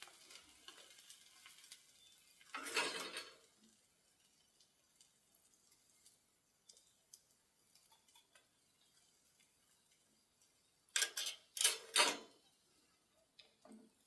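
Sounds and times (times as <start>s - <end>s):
embers crackling: 0.0s - 14.0s.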